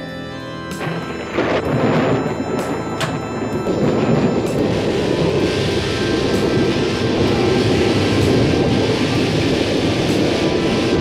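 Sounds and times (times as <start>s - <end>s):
loud steady rumbling: 0.6s - 11.0s.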